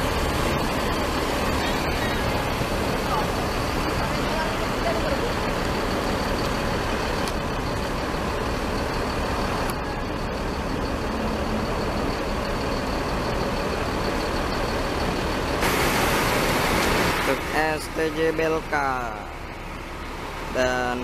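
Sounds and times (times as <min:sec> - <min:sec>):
large diesel vehicle running: 0:00.0 - 0:21.0.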